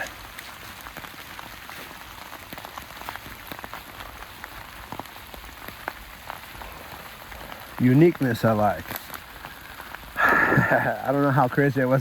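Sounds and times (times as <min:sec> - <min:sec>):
raindrop taps: 0:00.0 - 0:12.0
steady rain hiss: 0:00.0 - 0:12.0.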